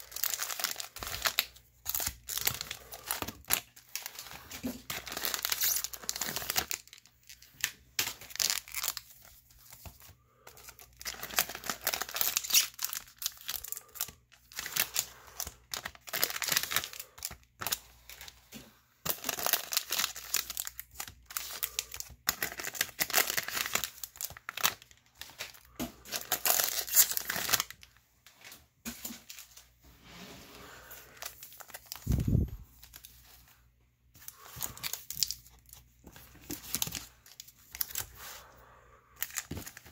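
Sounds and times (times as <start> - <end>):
foil wrappers crinkling: 0.0 - 29.6, 30.7 - 38.5, 39.2 - 39.9.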